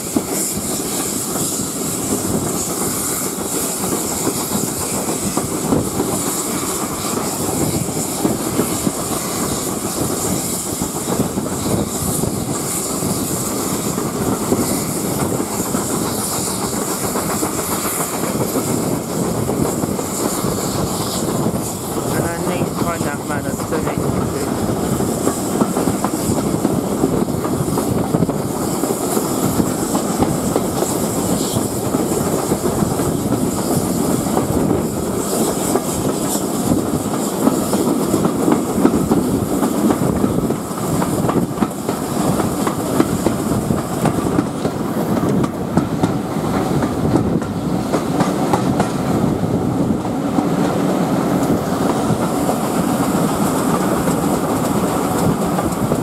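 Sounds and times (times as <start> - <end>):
train coaches rumbling: 0.0 - 56.0.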